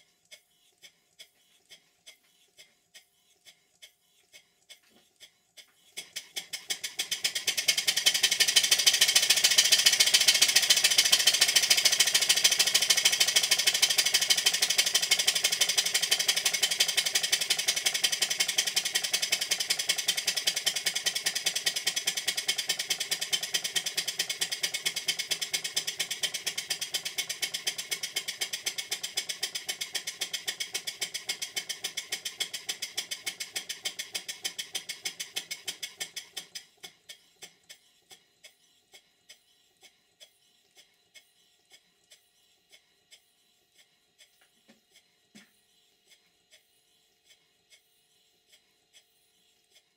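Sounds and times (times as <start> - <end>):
model steam engine exhaust beats: 0.0 - 49.9.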